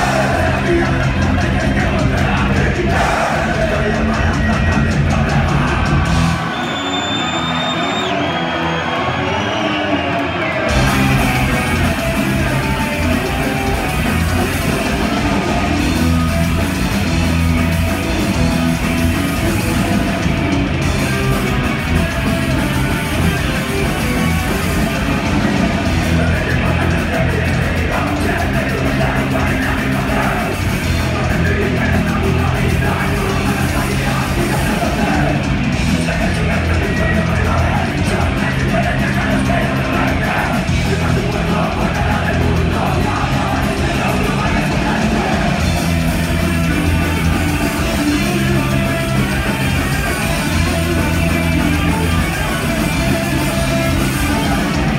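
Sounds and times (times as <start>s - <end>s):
shouted vocals: 0.0s - 16.7s, 17.5s - 54.9s
live punk rock band: 0.0s - 54.9s.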